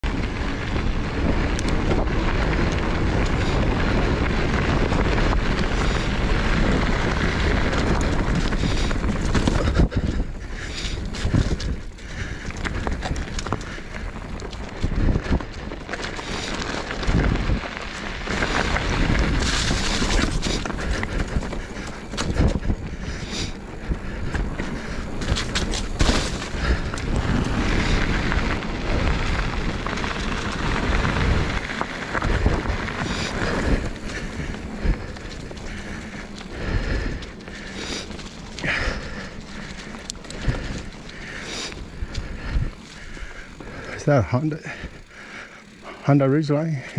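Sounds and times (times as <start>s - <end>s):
wind buffeting microphone: 0.0s - 46.0s
bike tyres rolling on gravel: 0.0s - 46.9s
bike knocks and rattles: 0.7s - 43.8s.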